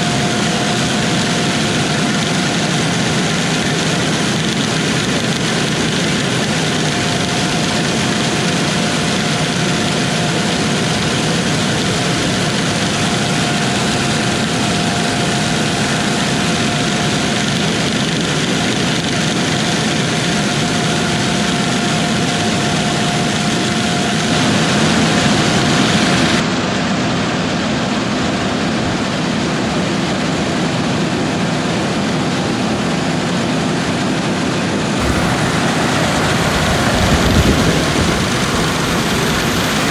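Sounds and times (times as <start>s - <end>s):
diesel machinery running: 0.0s - 26.5s, 29.6s - 39.9s
faint steady whine: 0.0s - 26.5s, 28.5s - 39.9s.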